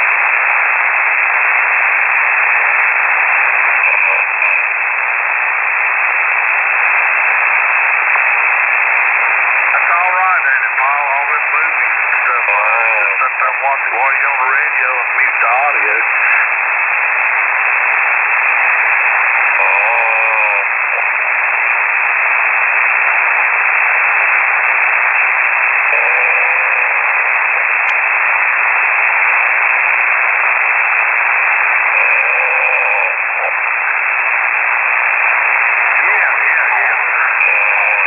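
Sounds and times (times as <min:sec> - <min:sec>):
radio static hiss: 0:00.0 - 0:38.0.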